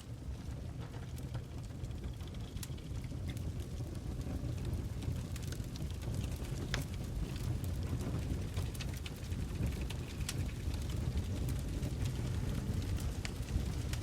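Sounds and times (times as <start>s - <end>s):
fire flames rumbling: 0.0s - 14.0s
logs crackling and popping: 0.0s - 14.0s.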